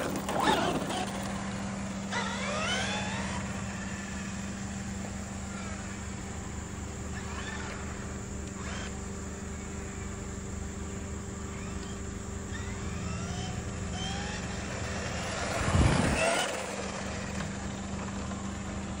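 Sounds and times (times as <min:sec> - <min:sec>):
electric motor whining: 0:00.0 - 0:19.0
steady low hum: 0:00.0 - 0:19.0.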